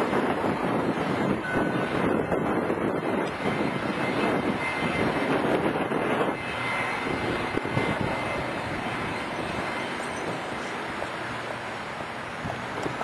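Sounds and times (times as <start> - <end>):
helicopter flying low overhead: 0.0 - 13.0.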